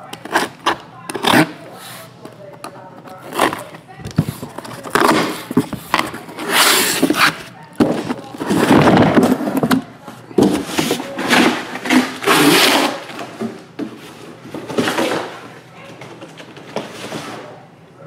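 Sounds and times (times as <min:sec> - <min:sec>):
boxes rustling and scraping: 0:00.0 - 0:17.7.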